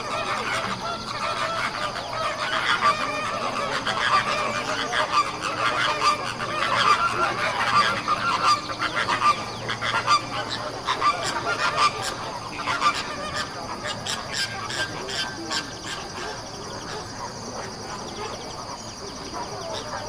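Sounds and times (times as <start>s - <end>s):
flock of birds calling: 0.0s - 20.0s.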